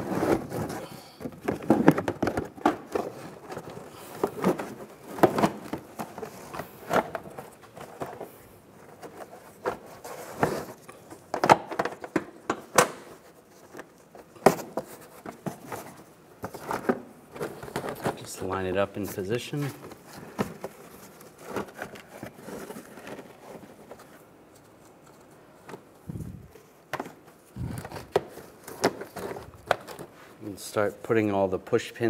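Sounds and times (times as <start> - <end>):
plastic liner rustling and scraping: 0.0 - 12.1, 12.9 - 30.9.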